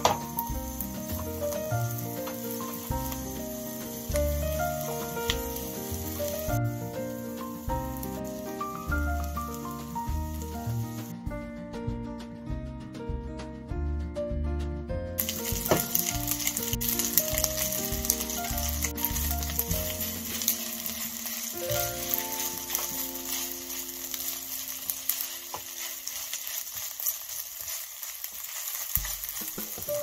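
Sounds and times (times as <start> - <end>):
food sizzling in a frying pan: 0.0 - 11.1, 15.2 - 30.0.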